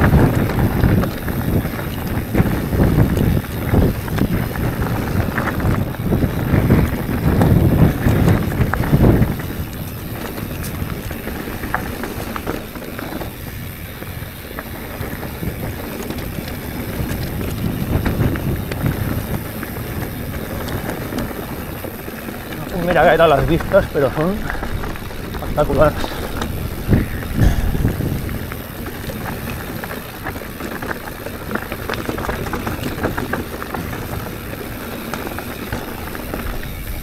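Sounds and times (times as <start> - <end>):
bike clicks and rattles: 0.0 - 37.0
wind on microphone: 0.0 - 37.0.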